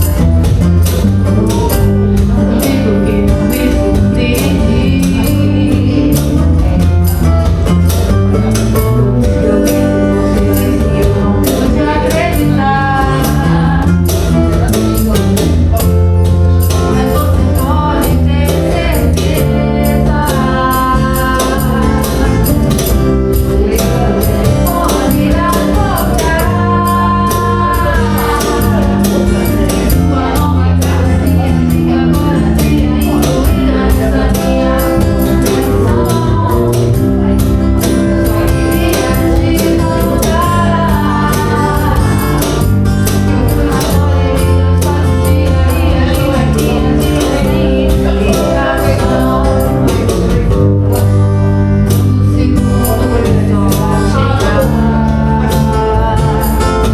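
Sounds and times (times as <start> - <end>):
backing instruments: 0.0 - 56.9
person singing: 0.0 - 56.9
steady percussion beat: 0.0 - 56.9.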